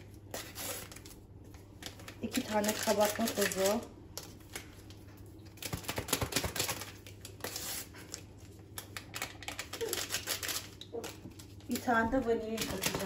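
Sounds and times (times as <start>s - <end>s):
paper sachets crinkling: 0.4s - 13.0s.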